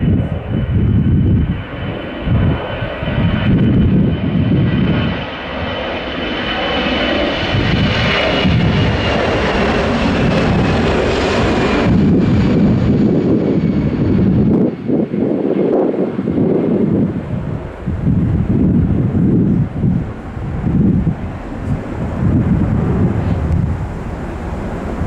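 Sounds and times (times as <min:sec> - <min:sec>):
low rumble: 0:00.0 - 0:05.8, 0:07.3 - 0:25.0
jet engine roar with whine: 0:00.0 - 0:25.0.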